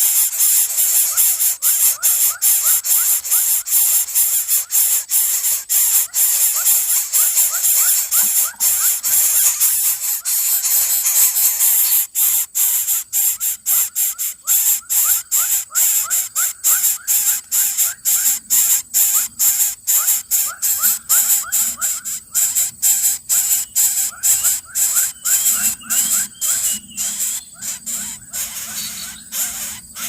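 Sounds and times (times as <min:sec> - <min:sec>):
chicks rasping hiss: 0:00.0 - 0:30.0.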